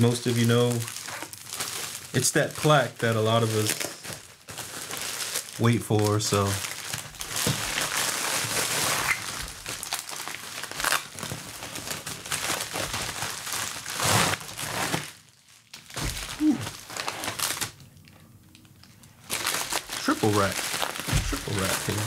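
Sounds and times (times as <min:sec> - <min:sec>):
packaging crinkling: 0:00.0 - 0:22.0.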